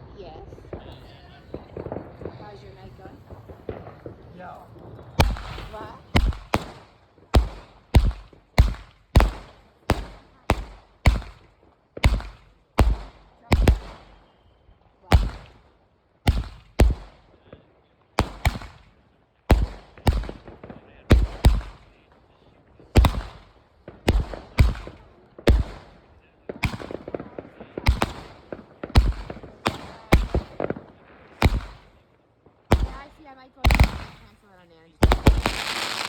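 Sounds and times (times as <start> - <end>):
fireworks bangs: 0.0 - 36.0
crackling firework pops: 0.7 - 14.4, 15.0 - 36.0.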